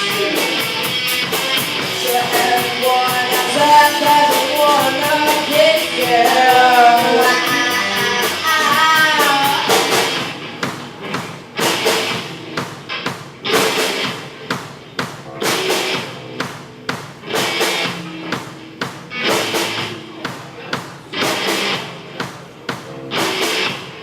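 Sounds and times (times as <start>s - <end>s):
drum kit steady beat: 0.0s - 24.0s
live band playing instrumental: 0.0s - 24.0s.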